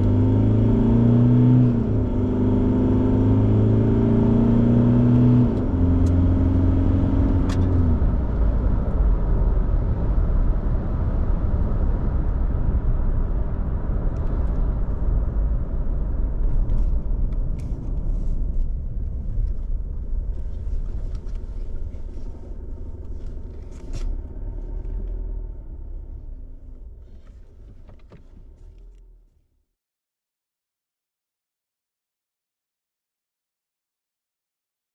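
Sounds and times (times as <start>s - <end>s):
diesel engine accelerating: 0.0s - 29.4s
low road rumble: 0.0s - 29.6s.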